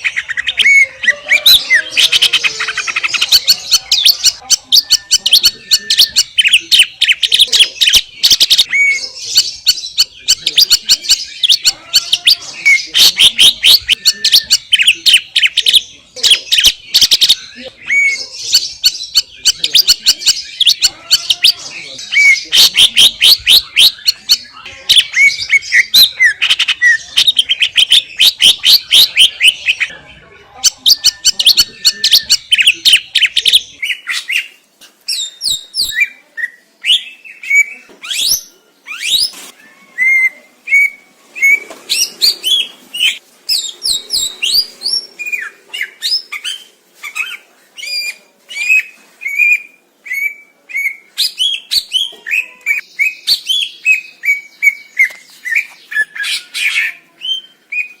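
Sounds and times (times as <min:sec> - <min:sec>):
bird singing chattering notes: 0:00.0 - 0:30.0, 0:30.6 - 0:58.0.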